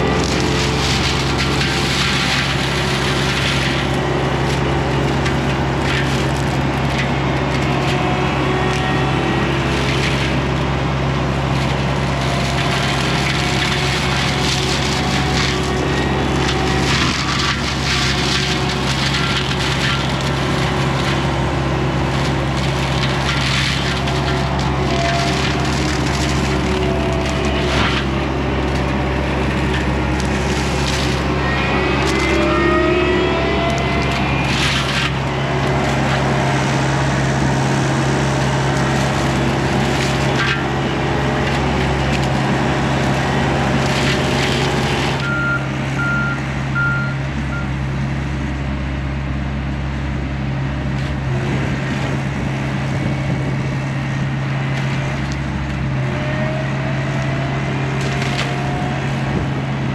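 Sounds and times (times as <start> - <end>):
diesel engine and hydraulics running: 0.0 - 59.9
mulcher shredding brush and wood: 0.0 - 59.9.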